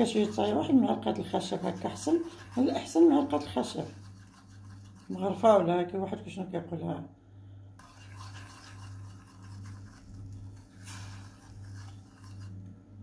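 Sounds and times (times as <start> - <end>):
wooden spoon scraping saucepan: 0.0 - 5.6, 7.8 - 12.6
steady low hum: 0.0 - 13.0.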